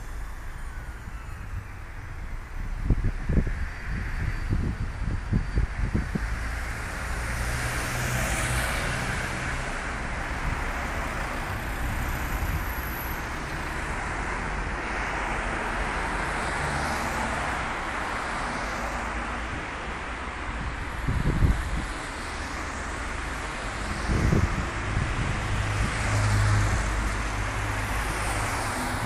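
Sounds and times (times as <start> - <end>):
passing cars: 0.0 - 29.0.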